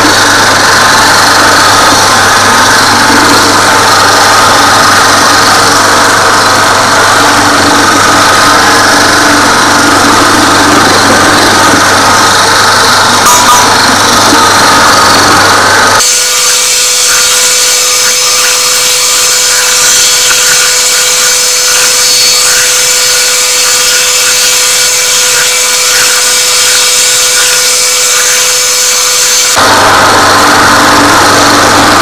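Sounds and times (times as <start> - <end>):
bowl cutter knives whirring: 0.0 - 32.0.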